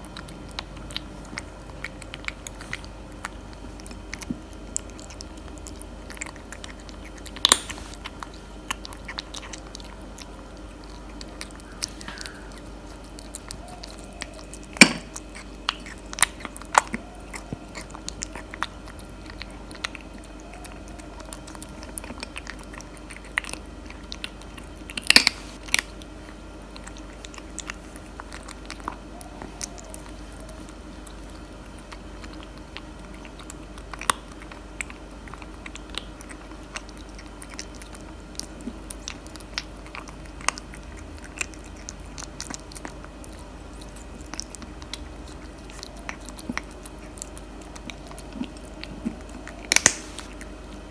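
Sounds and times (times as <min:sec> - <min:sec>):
kitten chewing and crunching food: 0:00.0 - 0:50.9.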